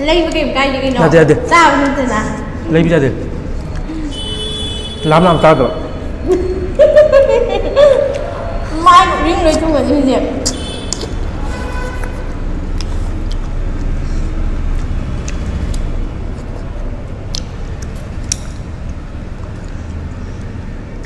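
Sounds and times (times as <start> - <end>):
people eating noodles: 0.0 - 21.0.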